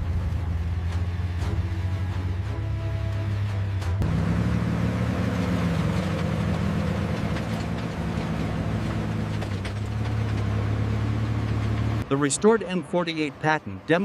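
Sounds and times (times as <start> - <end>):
tank engine low rumble: 0.0 - 14.0.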